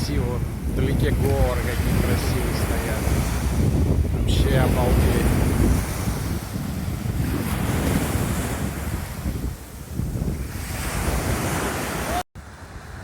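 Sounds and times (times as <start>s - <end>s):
waves washing ashore: 0.0s - 13.0s
wind buffeting microphone: 0.0s - 13.0s.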